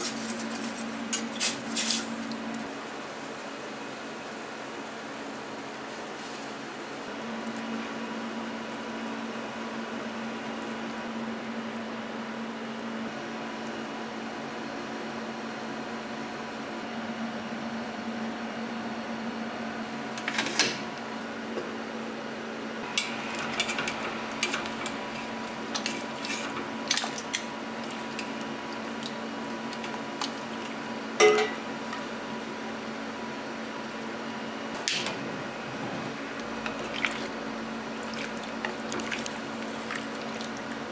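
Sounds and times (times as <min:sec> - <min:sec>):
kitchen hum: 0:00.0 - 0:15.4, 0:19.0 - 0:40.9.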